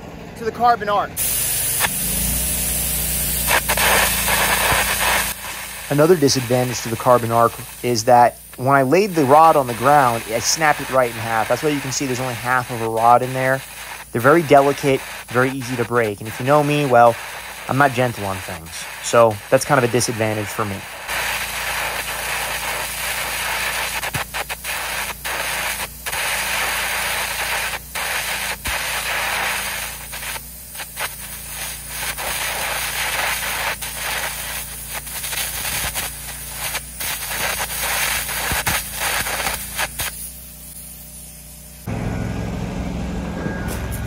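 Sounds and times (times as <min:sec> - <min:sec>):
steady low hum: 0:00.0 - 0:44.0
arc gouging hiss and crackle: 0:01.2 - 0:41.9.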